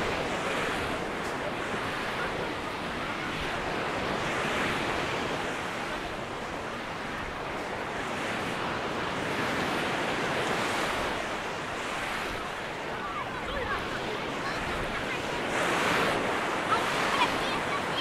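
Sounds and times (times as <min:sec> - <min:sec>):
waves breaking on sandy beach: 0:00.0 - 0:18.0.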